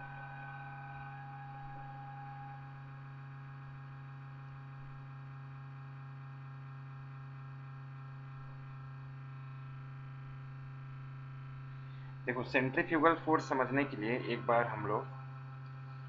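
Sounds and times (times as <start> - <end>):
electrical hum and buzz: 0.0 - 16.0.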